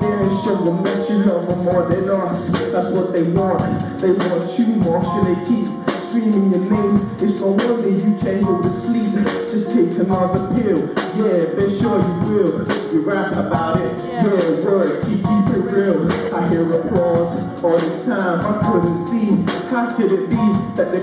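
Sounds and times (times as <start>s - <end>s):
drum beat: 0.0s - 20.8s
person singing into a microphone: 0.0s - 21.0s.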